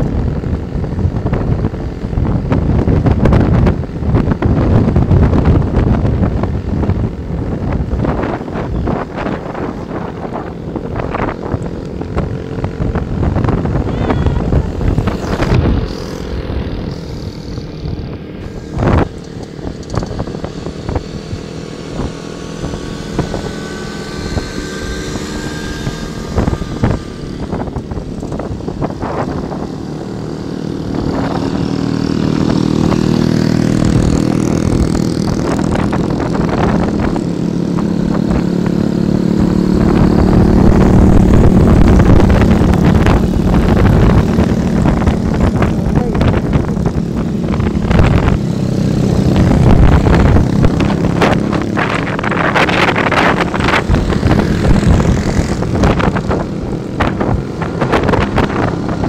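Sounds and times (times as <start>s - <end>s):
motorcycle engines riding: 0.0s - 59.0s
wind buffeting microphone: 0.0s - 59.0s.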